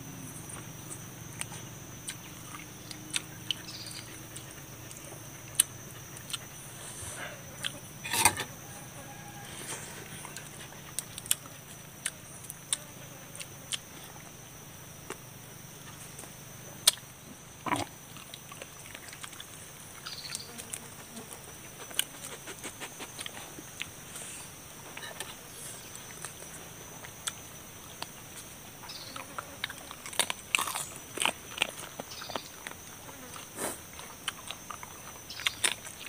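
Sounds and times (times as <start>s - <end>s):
steady low hum: 0.0s - 36.0s
mouth chewing: 0.6s - 8.2s, 9.2s - 14.4s, 17.7s - 36.0s.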